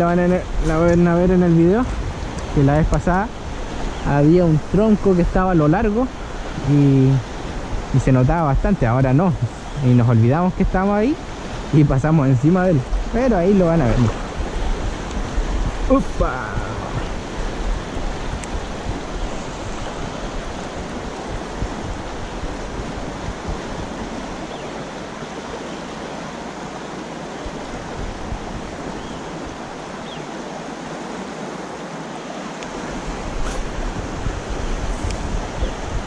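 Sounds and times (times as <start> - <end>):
river rushing over stones: 0.0 - 36.0
wind rumbling on microphone: 0.0 - 36.0.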